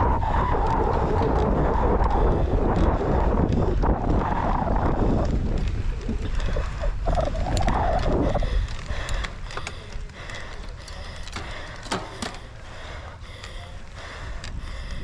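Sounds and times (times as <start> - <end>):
bike rattling and clicking: 0.0 - 15.0
wind buffeting microphone: 0.0 - 15.0.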